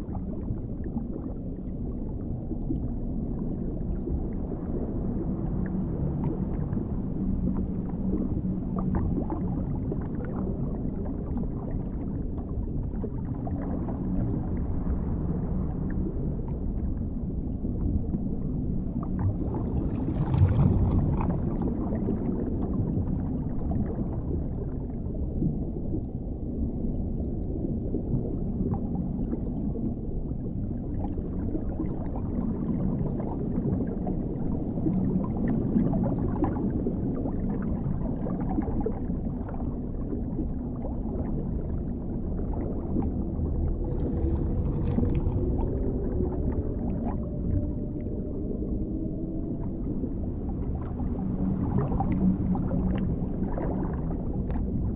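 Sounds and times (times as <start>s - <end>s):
deep underwater rumble: 0.0s - 54.9s
faint gliding tones: 0.0s - 54.9s.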